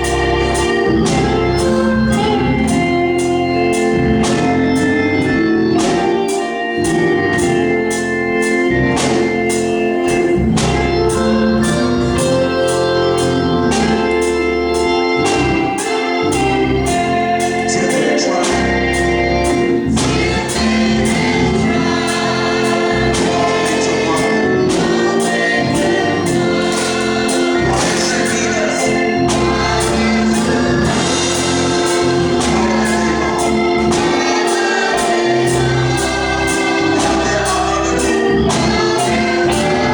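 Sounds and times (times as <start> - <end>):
choir singing: 0.0 - 39.9
organ chords with steady beat: 0.0 - 39.9.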